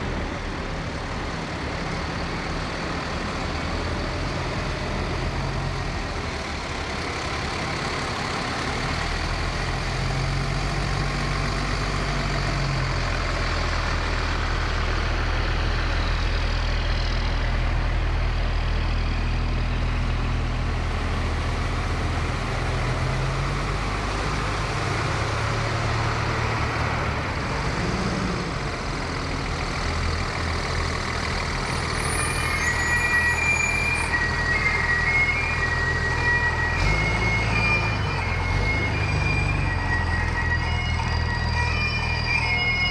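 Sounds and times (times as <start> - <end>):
fire truck diesel engines rumbling: 0.0 - 42.9.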